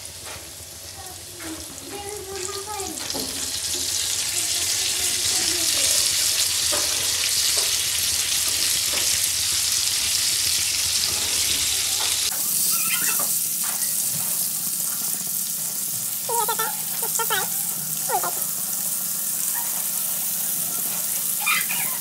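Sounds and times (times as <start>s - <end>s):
oil sizzling on a flat pan: 0.0s - 22.0s.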